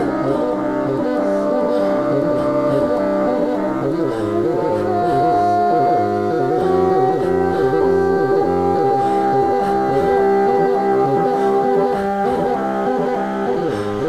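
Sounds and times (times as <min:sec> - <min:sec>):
bassoon with electronic effects: 0:00.0 - 0:14.0.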